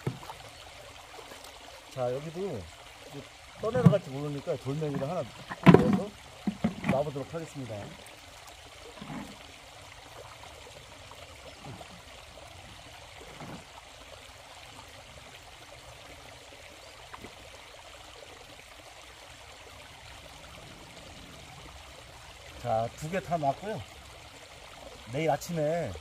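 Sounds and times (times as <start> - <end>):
soft water splashes: 0.0 - 26.0
stream running over stones: 0.0 - 26.0.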